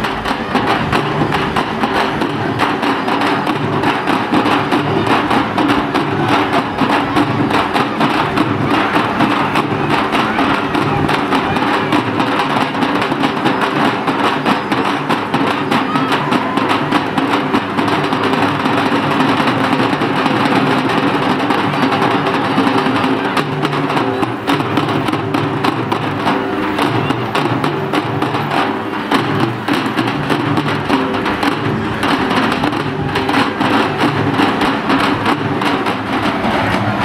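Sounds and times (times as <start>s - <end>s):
procession music with fast drumming: 0.0s - 37.0s.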